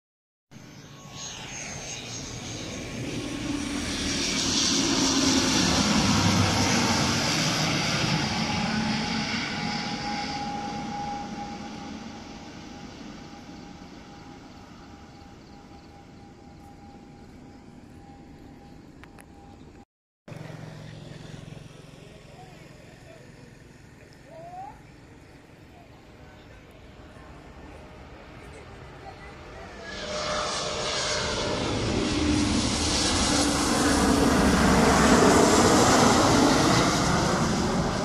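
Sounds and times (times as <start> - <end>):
airplane engines passing: 0.6 - 38.0
falling engine whine: 0.6 - 38.0.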